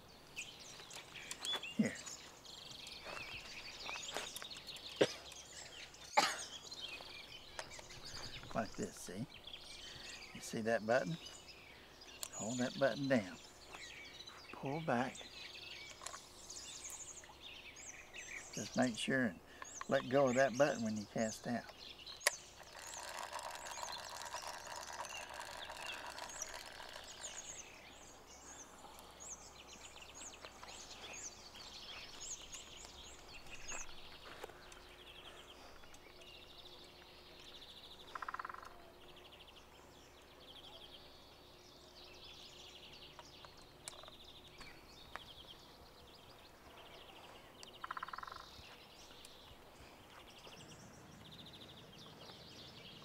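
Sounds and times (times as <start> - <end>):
birds chirping and singing: 0.0 - 53.0.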